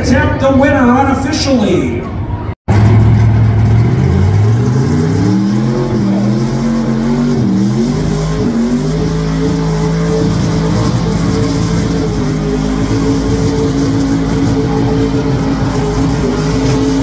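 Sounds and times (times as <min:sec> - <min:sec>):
truck engine revving hard: 0:02.7 - 0:17.0.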